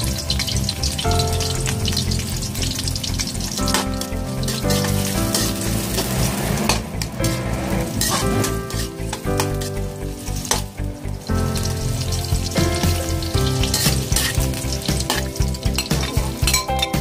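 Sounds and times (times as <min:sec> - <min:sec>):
onions sizzling in hot oil: 0:00.0 - 0:07.2, 0:07.9 - 0:17.0
background music with a steady beat: 0:00.0 - 0:17.0.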